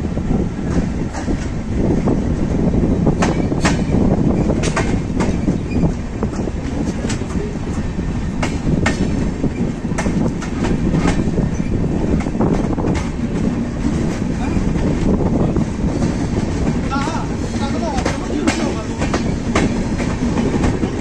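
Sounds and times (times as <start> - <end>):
train rumbling on track: 0.0 - 21.0
wheels clicking over rail joints: 3.2 - 21.0.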